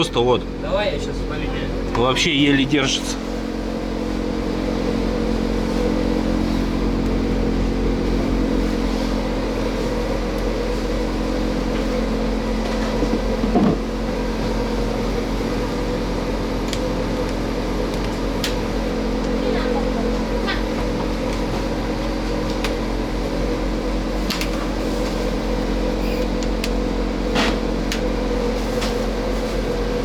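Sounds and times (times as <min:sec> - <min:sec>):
mechanical hum of equipment: 0:00.0 - 0:30.0.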